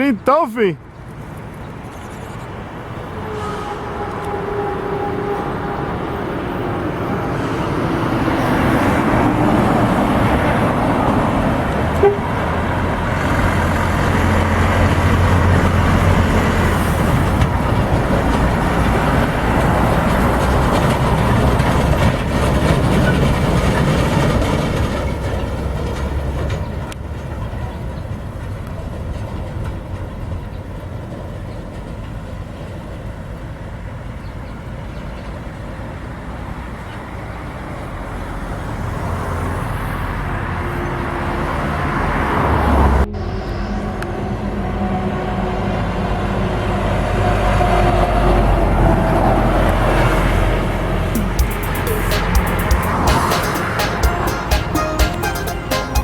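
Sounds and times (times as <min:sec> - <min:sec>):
truck engine and road noise: 0:00.0 - 0:56.0.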